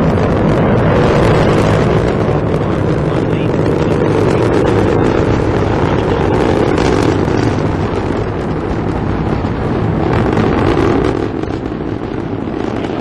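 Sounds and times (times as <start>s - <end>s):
rocket engine rumble with crackle: 0.0s - 13.0s.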